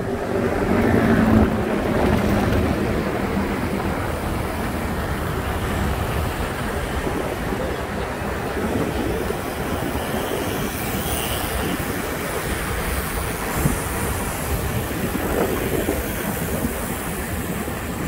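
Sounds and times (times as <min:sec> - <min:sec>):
traffic noise: 0:00.0 - 0:18.0
wind on microphone: 0:00.0 - 0:18.0.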